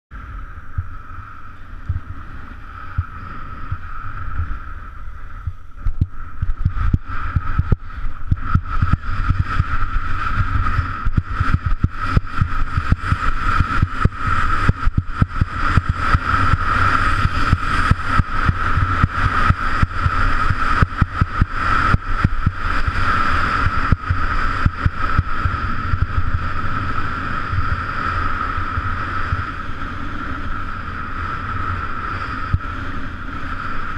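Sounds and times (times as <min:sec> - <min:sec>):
wind buffeting microphone: 0:00.1 - 0:33.9
skis scraping over snow: 0:00.8 - 0:33.9.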